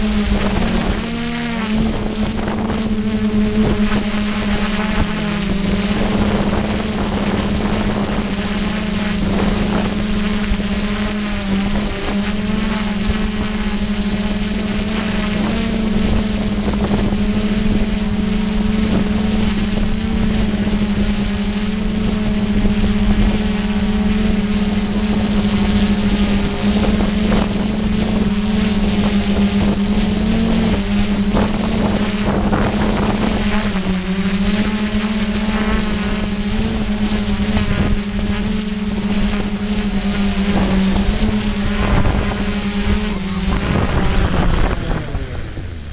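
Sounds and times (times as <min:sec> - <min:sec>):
drone motors buzzing: 0:00.0 - 0:45.9
wind noise: 0:00.0 - 0:45.9.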